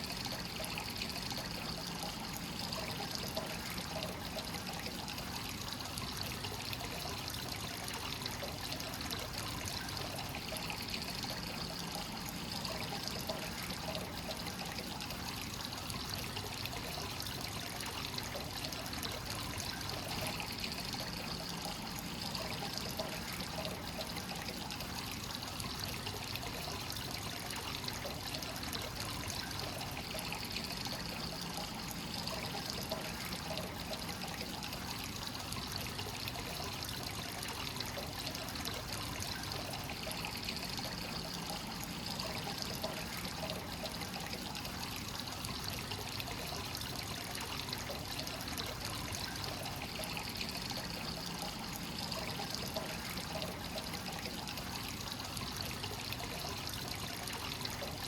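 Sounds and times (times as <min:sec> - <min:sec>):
water pouring into a bath: 0:00.0 - 0:58.0.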